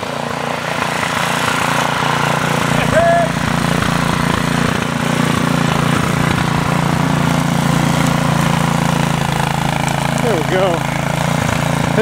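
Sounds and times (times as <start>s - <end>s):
snowblower engine droning: 0.0s - 12.0s.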